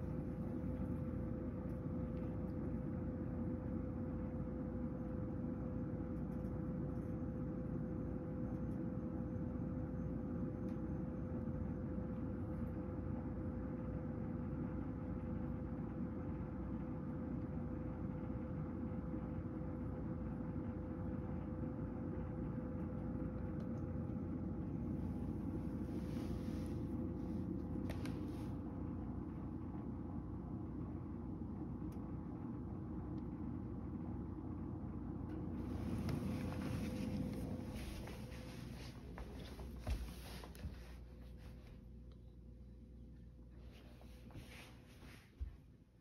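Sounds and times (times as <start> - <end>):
fan heater humming: 0.0 - 46.0.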